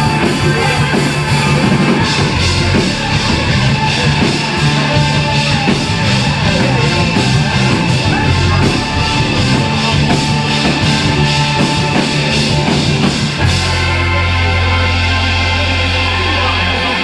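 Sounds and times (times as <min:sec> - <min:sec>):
drum kit: 0:00.0 - 0:17.0
rock band playing: 0:00.0 - 0:17.0.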